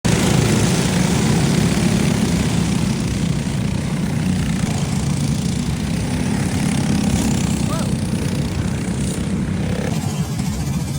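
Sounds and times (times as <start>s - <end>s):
go-kart engines droning: 0.1s - 10.9s.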